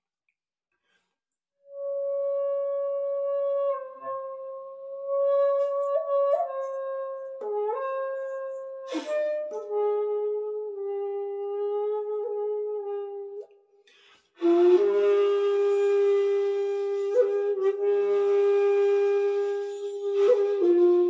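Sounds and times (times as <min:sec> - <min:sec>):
shakuhachi long-held notes: 0:01.7 - 0:13.5, 0:14.4 - 0:21.0.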